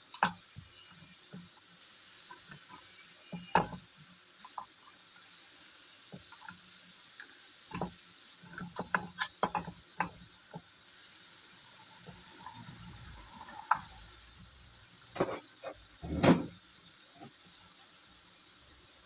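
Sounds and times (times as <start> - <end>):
wire coil clicking and scraping: 0.0 - 18.0.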